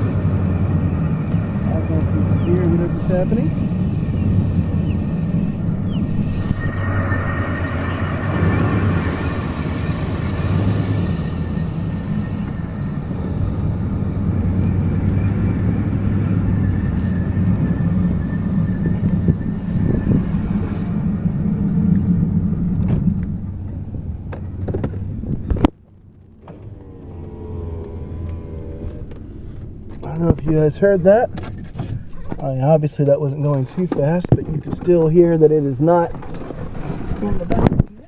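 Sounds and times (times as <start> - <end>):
truck low rumble: 0.0 - 38.0.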